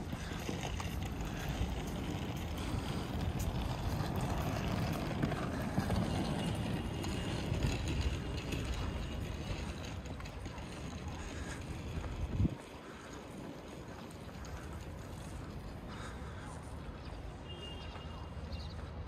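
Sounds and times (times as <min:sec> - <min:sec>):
wind buffeting microphone: 0:00.0 - 0:15.9
low outdoor rumble: 0:00.0 - 0:17.0.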